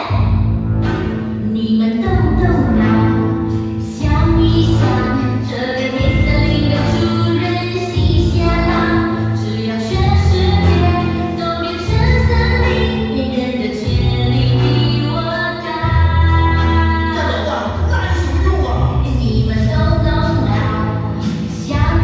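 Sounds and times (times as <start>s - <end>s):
instrumental accompaniment: 0.0s - 18.3s
voices singing: 1.5s - 22.0s.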